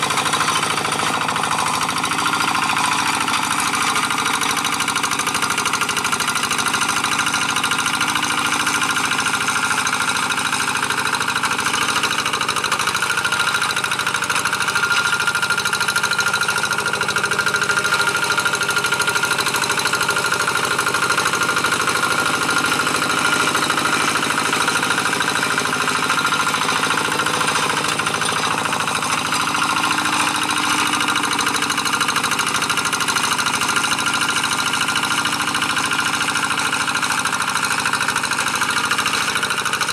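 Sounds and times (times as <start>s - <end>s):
diesel engine knocking under load: 0.0s - 39.9s.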